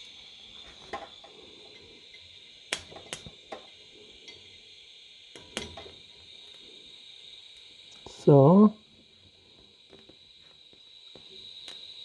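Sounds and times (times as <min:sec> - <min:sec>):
sharp clicks of welding arc strikes: 0:00.0 - 0:12.0
shielding gas hissing from torch: 0:00.0 - 0:12.0.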